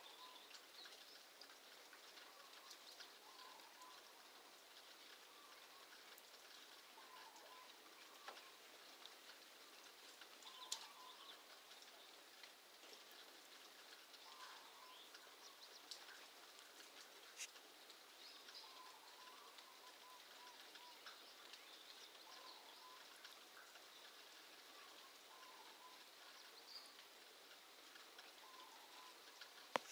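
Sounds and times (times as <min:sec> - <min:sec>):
light rain patter: 0:00.0 - 0:29.9
water drip ticks: 0:00.0 - 0:29.9
distant bird calls: 0:02.0 - 0:12.2, 0:13.0 - 0:29.9.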